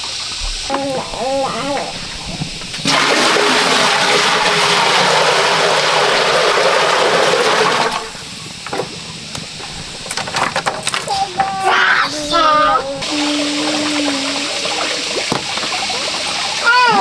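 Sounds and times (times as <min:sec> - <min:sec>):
water gushing: 0:00.0 - 0:17.0.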